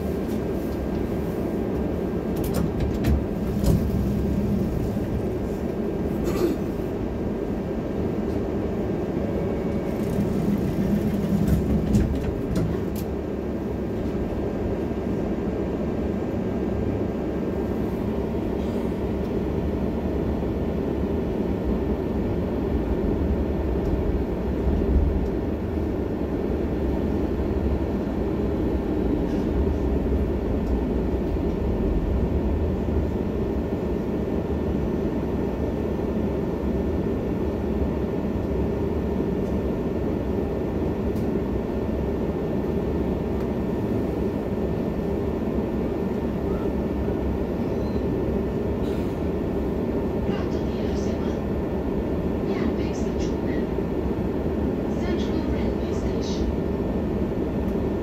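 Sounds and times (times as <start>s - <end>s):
tram motors and wheels rumbling: 0.0s - 58.0s.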